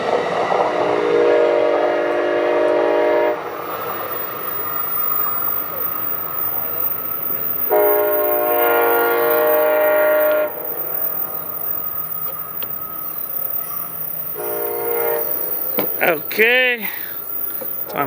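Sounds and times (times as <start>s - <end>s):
train running noise: 0.0s - 18.0s
train horn chime blasts: 0.7s - 16.3s.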